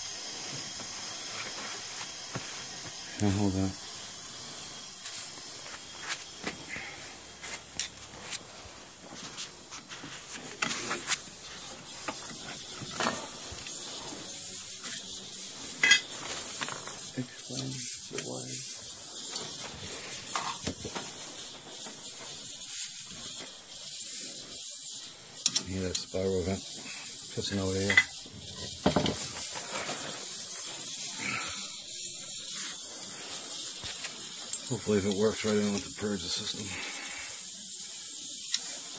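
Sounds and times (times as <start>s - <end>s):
air and water hissing from vent: 0.0s - 38.9s.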